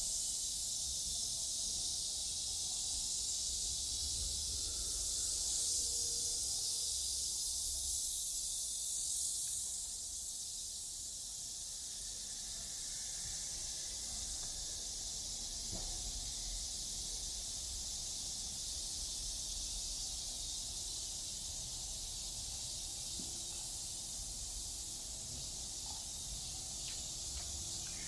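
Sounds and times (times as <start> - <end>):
cicadas chorusing: 0.0 - 28.0.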